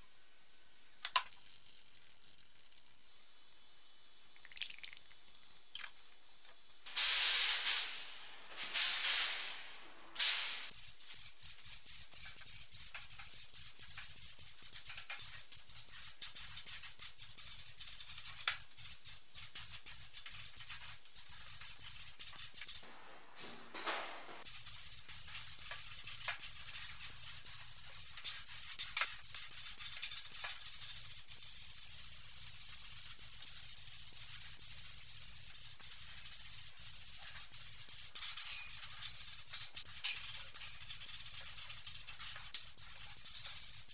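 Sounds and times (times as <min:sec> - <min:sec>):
spray gun hissing: 0:06.9 - 0:22.8, 0:24.4 - 0:43.9.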